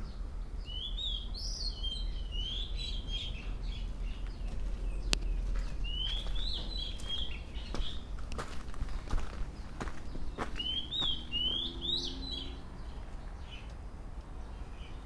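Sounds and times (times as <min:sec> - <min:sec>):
songbird warbling: 0:00.1 - 0:08.5, 0:09.1 - 0:13.7.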